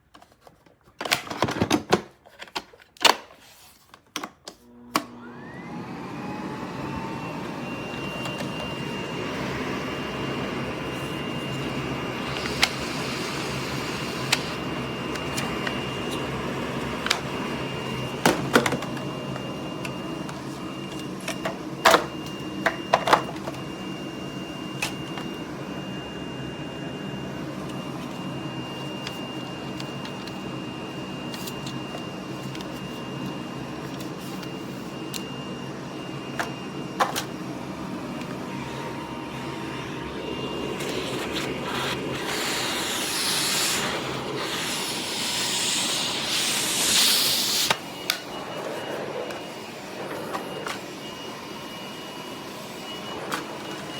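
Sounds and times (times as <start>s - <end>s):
vacuum cleaner running: 4.6s - 53.9s.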